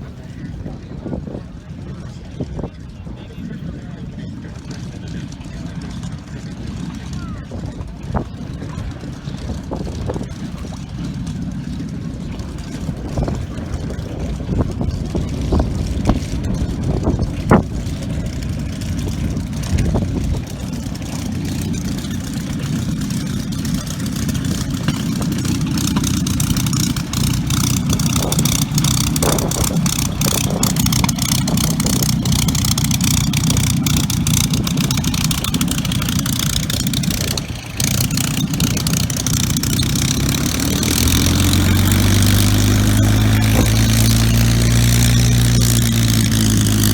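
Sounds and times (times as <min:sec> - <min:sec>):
aircraft engine noise: 0:00.0 - 0:46.9.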